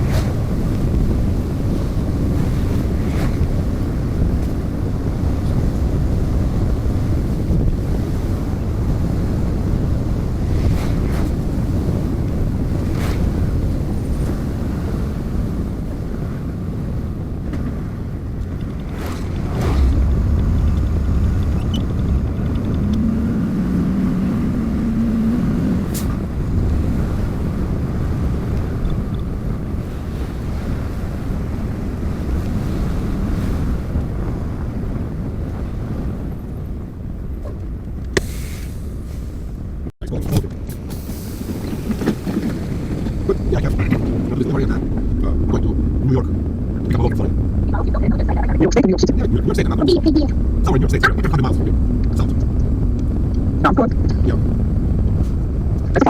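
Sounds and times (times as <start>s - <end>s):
vehicle rumble on road: 0.0s - 56.0s
wind noise: 0.0s - 56.0s.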